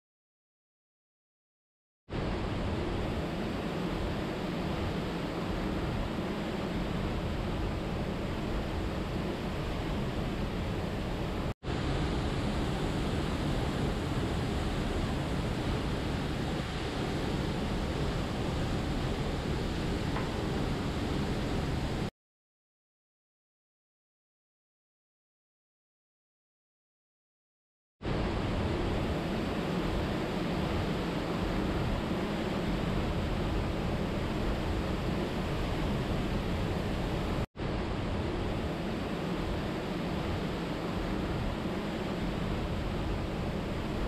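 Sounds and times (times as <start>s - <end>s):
steady rushing noise: 2.1s - 22.1s, 28.0s - 44.0s.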